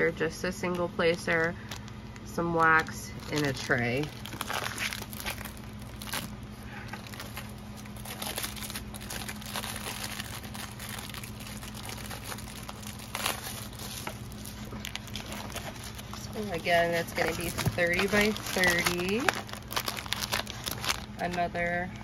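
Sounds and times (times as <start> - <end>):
low steady hum: 0.0 - 22.0
plastic packaging crinkling: 0.6 - 21.7.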